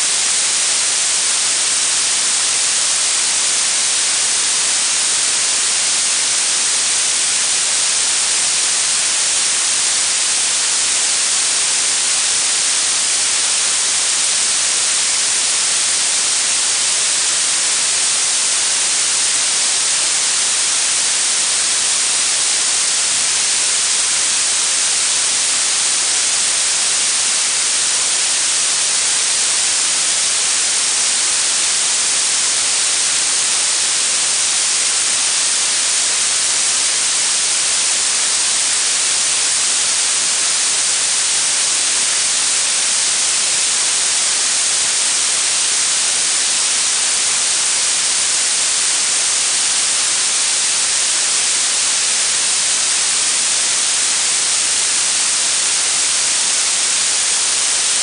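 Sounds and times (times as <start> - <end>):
bright high-frequency hiss: 0.0 - 58.0.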